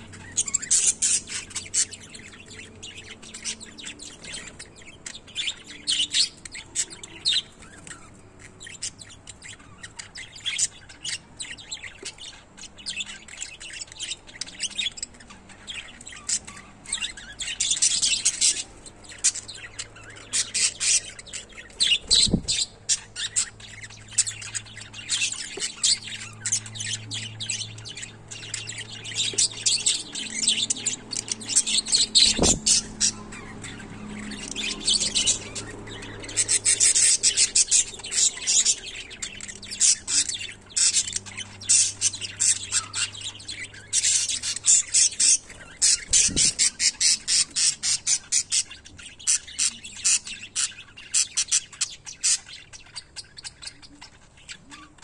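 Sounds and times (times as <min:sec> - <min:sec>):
parrots chattering and squawking: 0:00.0 - 0:55.0.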